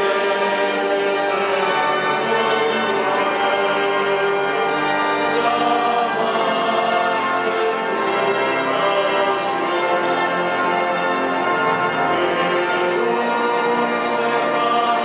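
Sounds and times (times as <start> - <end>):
choir singing: 0.0 - 15.0
pipe organ chords: 0.0 - 15.0.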